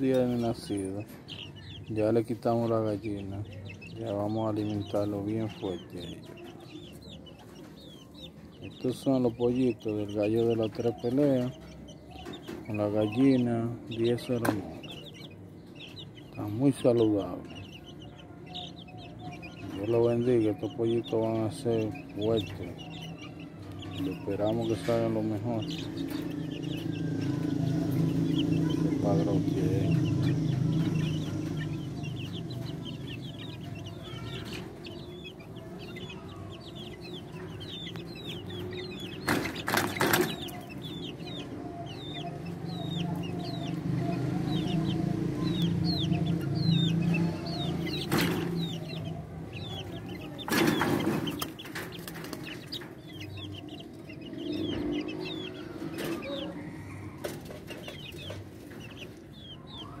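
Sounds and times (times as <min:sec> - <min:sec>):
chicks peeping: 0:00.0 - 1:00.0.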